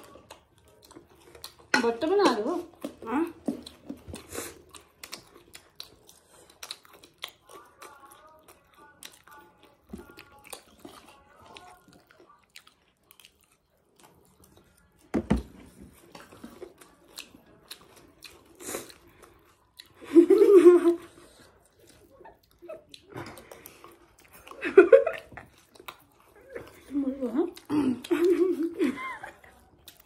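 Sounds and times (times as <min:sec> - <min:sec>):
person chewing food: 0:00.0 - 0:30.0.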